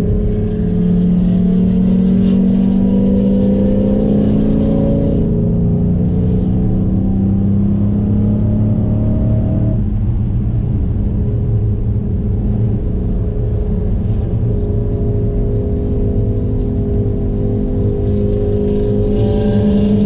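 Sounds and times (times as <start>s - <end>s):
car engine from inside cabin: 0.0s - 20.0s
road rumble: 0.0s - 20.0s.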